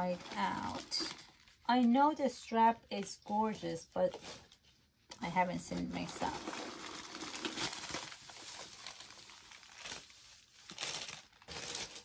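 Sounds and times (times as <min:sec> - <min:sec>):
tissue paper crinkling and rustling: 0:00.0 - 0:01.6, 0:03.5 - 0:12.0.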